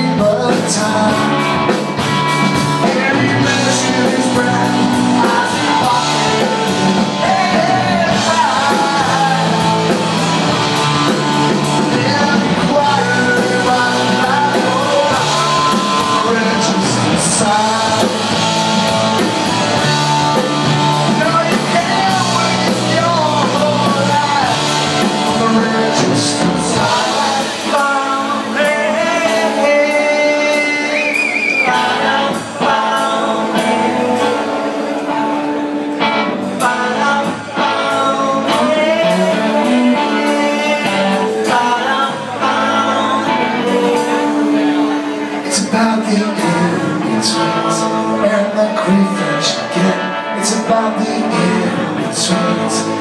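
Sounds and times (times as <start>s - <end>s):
rock band playing live: 0.0s - 53.0s
wavering lead guitar: 0.0s - 53.0s.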